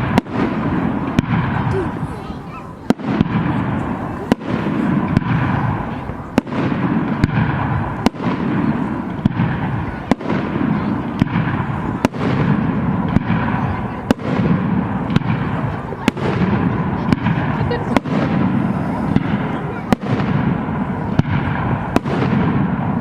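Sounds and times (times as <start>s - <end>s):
rumble of explosions: 0.0s - 23.0s.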